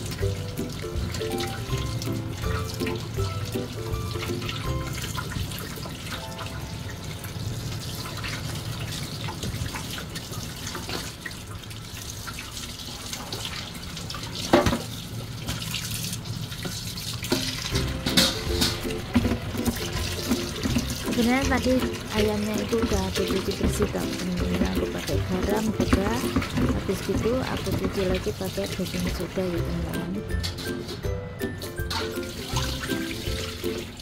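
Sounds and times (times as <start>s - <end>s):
tap water running into sink: 0.0s - 34.0s.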